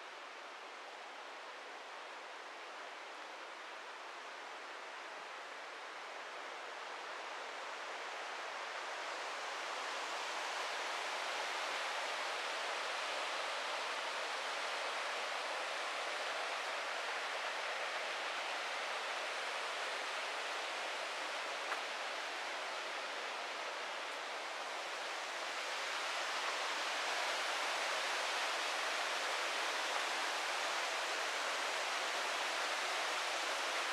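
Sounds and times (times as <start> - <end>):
river and waterfall rushing: 0.7 - 33.9.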